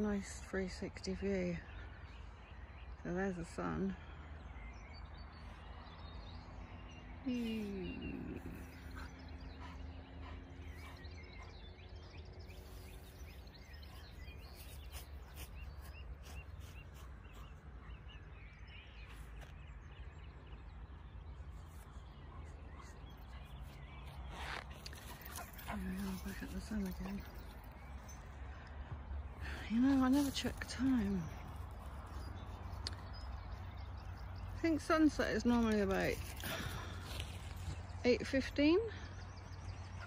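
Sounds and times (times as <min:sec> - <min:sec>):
faint birdsong: 0:00.0 - 0:40.0.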